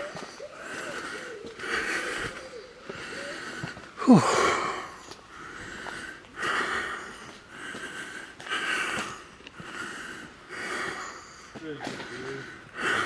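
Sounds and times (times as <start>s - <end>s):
person breathing heavily: 0.0s - 13.0s.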